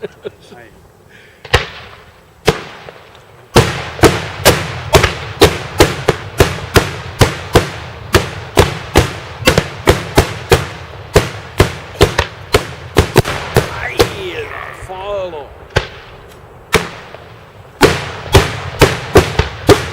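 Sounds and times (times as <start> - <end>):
fireworks bangs echoing: 1.4 - 14.8, 15.5 - 19.9.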